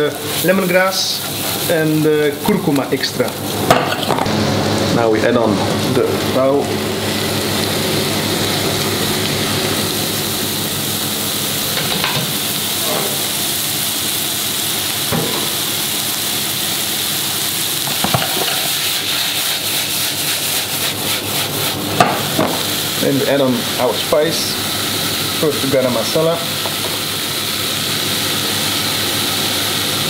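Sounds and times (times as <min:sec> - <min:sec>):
lentils sizzling in oil: 0:00.0 - 0:04.1, 0:06.2 - 0:30.0.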